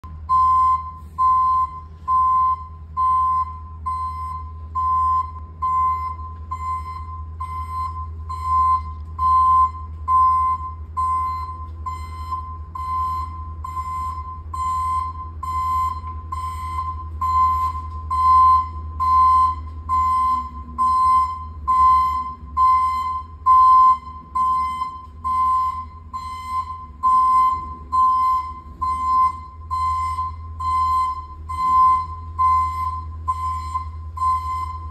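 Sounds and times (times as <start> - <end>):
low rumble: 0.0 - 34.9
reversing alarm beeping: 0.0 - 34.9.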